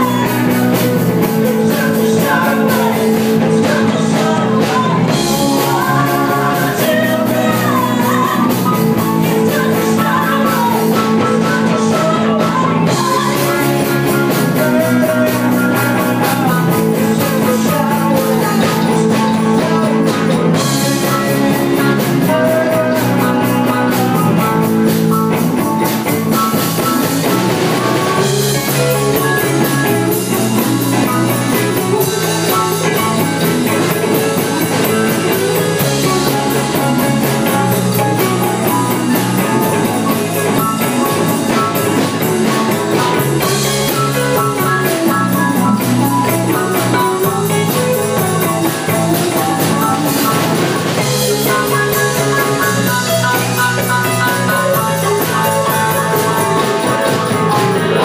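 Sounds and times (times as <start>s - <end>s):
woman singing: 0.0s - 24.8s, 26.4s - 58.0s
live rock band: 0.0s - 58.0s.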